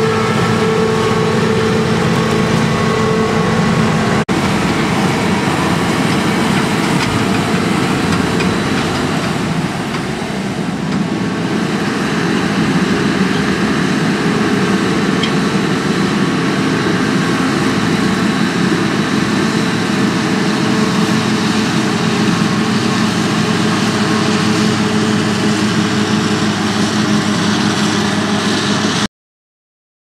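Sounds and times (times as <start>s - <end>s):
forage harvester deep drone: 0.0s - 29.1s.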